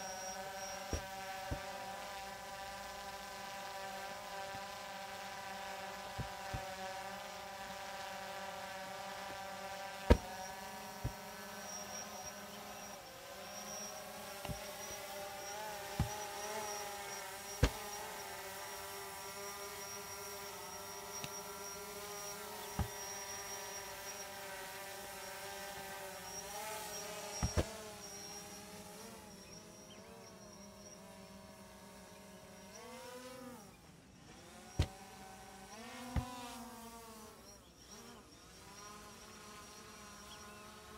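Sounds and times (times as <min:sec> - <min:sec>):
small motor buzzing hum: 0:00.0 - 0:40.9.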